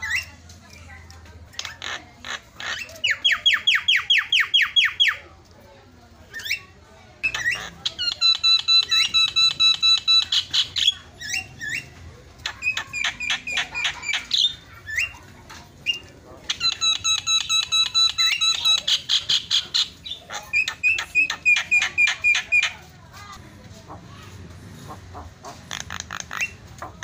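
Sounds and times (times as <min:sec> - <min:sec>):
bird singing harsh repeated notes: 0:01.5 - 0:05.2, 0:06.3 - 0:22.9, 0:25.2 - 0:27.0.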